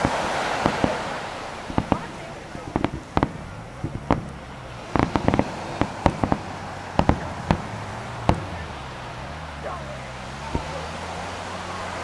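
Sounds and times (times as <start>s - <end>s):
fireworks bangs: 0.0s - 11.2s.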